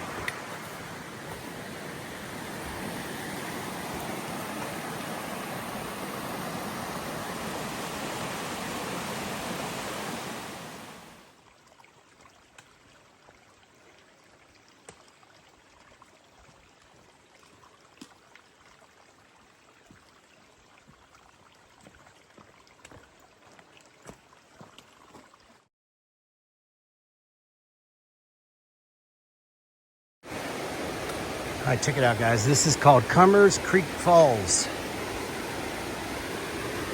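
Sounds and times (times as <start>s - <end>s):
rushing stream water: 0.0s - 25.7s, 30.3s - 36.9s.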